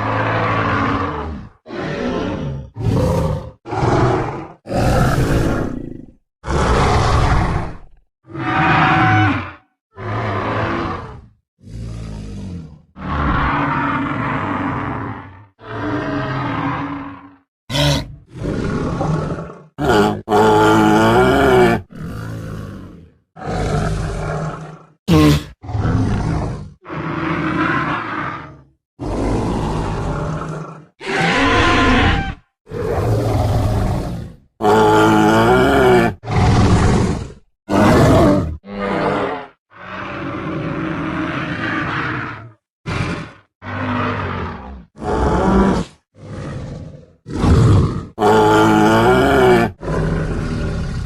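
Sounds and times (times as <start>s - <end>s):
deep creature roars: 0.0s - 51.0s.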